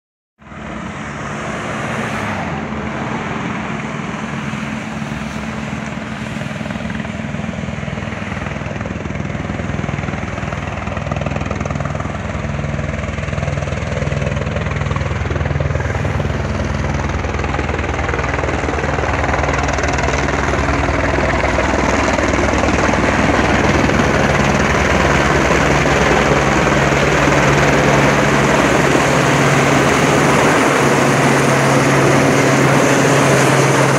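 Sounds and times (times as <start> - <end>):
helicopter rotor chop: 0.4 - 33.9
turbine engine: 0.4 - 33.9.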